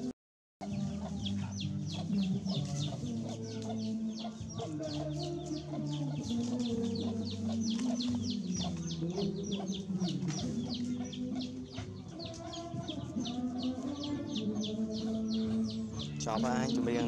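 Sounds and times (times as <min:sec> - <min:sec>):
chicks peeping: 0:00.6 - 0:17.0.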